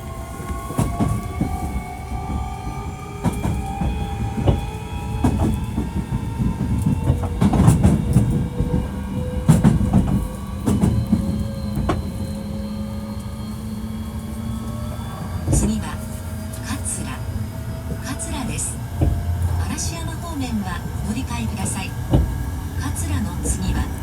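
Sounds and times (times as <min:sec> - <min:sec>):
low train running rumble: 0:00.0 - 0:24.0
train motors whining: 0:00.0 - 0:24.0
wheels clacking over rail joints: 0:00.0 - 0:24.0.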